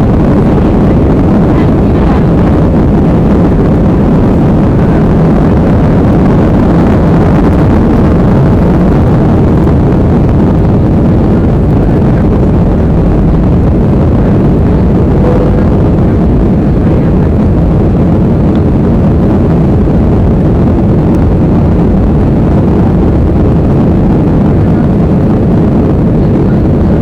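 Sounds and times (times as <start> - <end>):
airliner engines at takeoff: 0.0 - 27.0.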